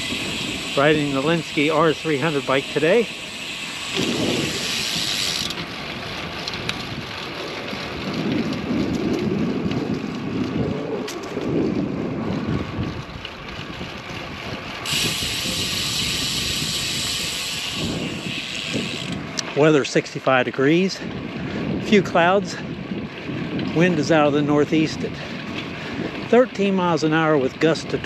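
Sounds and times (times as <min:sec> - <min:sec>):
tyre and road noise: 0:00.0 - 0:28.0
wind buffeting microphone: 0:00.0 - 0:28.0.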